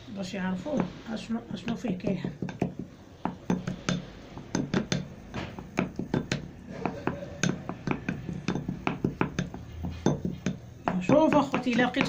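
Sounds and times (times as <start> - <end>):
wooden spoon knocking glass bowl: 1.6 - 12.0.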